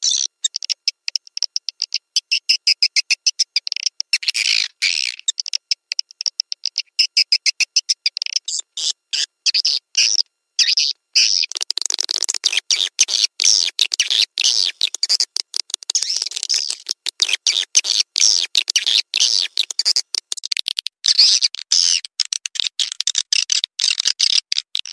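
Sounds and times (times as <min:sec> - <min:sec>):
high twittering bird chirps: 0:00.0 - 0:20.2.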